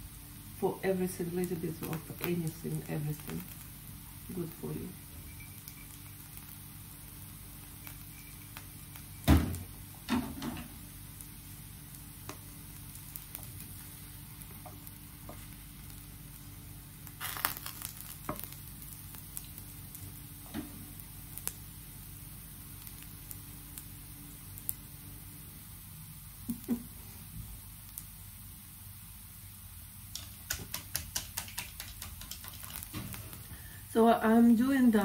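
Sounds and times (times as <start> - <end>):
batter sizzling in pan: 0.0 - 35.0.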